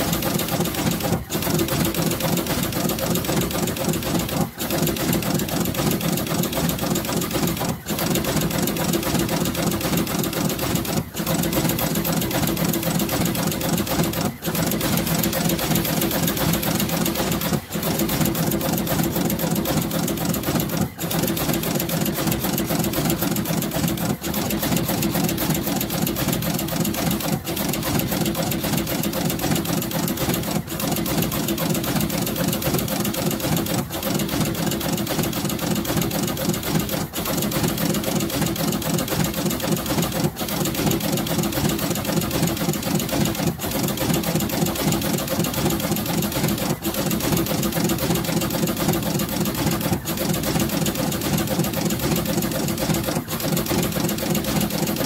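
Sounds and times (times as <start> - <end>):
machine clattering with rapid ticks: 0.0 - 55.0.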